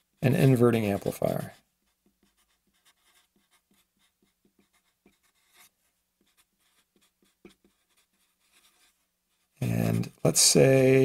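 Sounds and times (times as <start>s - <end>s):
marker scratching on paper: 0.0s - 10.2s.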